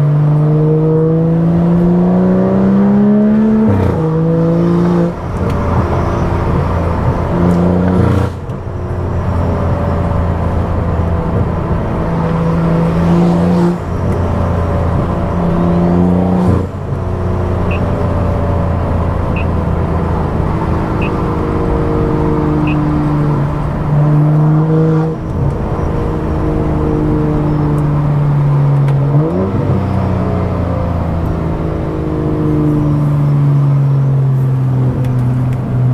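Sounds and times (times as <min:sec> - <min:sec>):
car engine with loud exhaust: 0:00.0 - 0:35.9.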